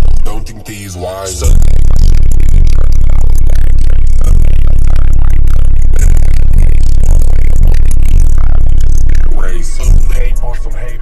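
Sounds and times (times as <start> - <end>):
loud bass-heavy music: 0.0 - 11.0.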